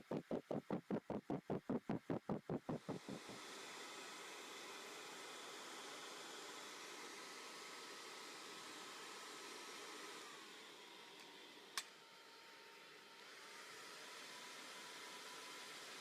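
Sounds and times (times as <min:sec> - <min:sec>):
hair dryer whine: 0:02.5 - 0:16.0
hair dryer air rush: 0:02.6 - 0:16.0.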